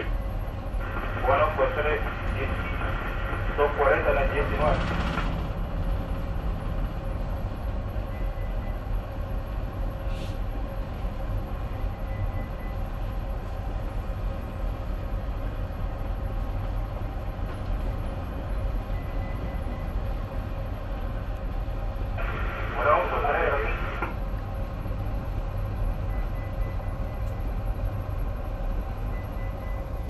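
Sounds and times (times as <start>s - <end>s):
ship engine rumble: 0.0s - 30.0s.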